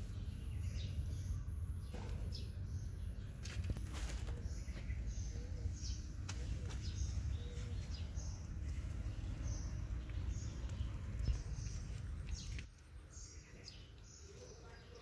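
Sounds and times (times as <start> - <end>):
steady low rumble: 0.0 - 13.5
small birds chirping: 0.0 - 15.0.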